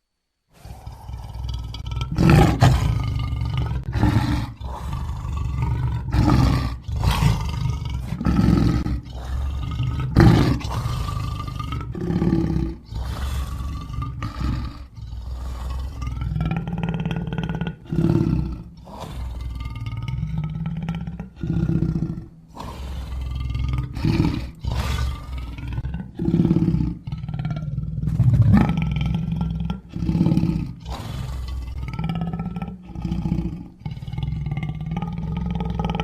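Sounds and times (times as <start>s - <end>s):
lion roaring and growling: 0.6s - 36.0s.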